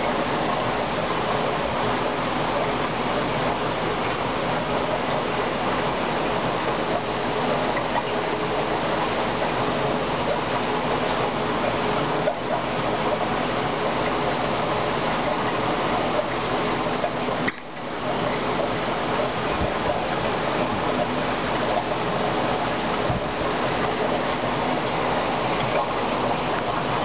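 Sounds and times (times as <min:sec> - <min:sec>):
aquarium water gurgling: 0:00.0 - 0:27.0
faint hum: 0:00.0 - 0:27.0.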